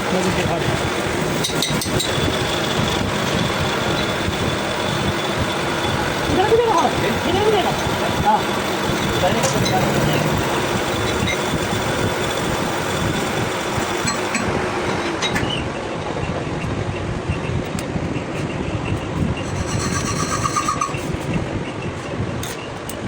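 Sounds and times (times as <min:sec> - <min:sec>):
machine rumble: 0:00.0 - 0:22.4.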